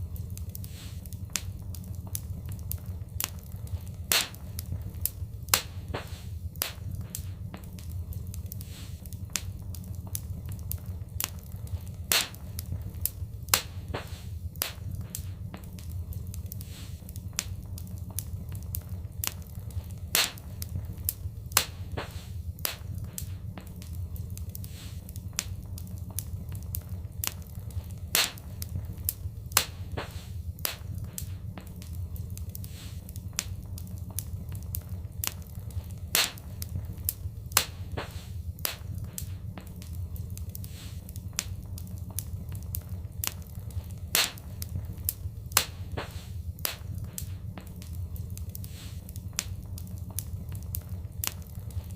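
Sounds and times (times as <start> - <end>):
low fire rumble: 0.0 - 51.9
sharp pops and snaps: 0.0 - 51.9
wood fire crackling: 0.0 - 51.9.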